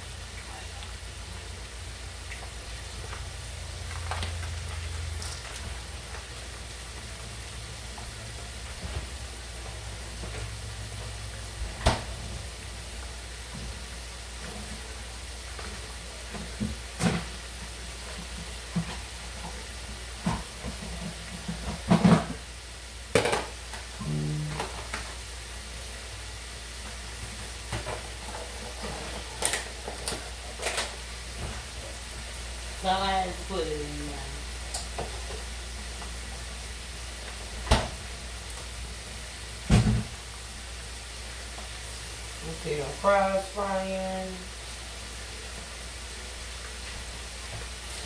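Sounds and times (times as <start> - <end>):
food sizzling in hot oil: 0.0 - 48.0.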